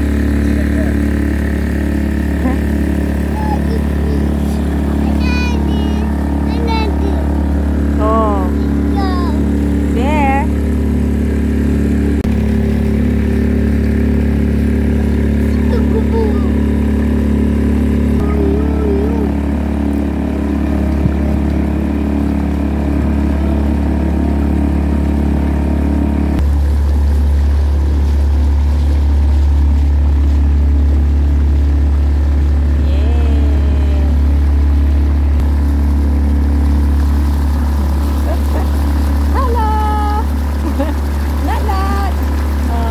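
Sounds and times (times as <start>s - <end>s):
motorboat engine droning: 0.0s - 42.9s.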